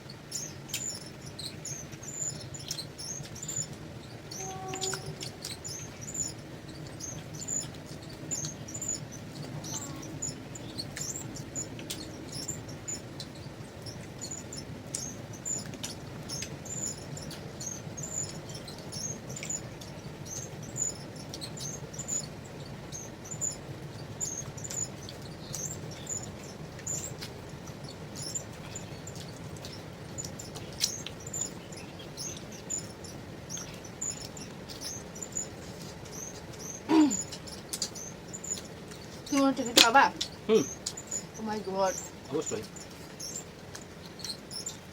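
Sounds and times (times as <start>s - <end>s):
low steady hum: 0.0s - 44.9s
chewing and lip-smacking: 4.9s - 20.5s, 23.9s - 41.4s, 42.0s - 44.9s.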